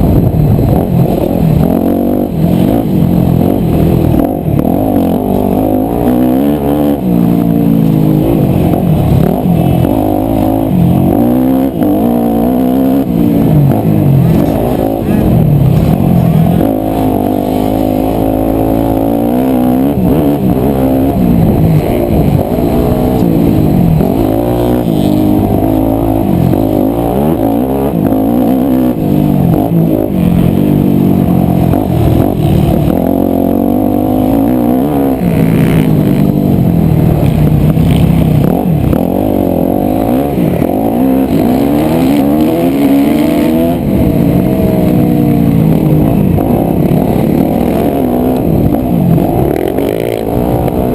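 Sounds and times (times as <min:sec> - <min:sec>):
motocross engine revving: 0:00.0 - 0:50.9.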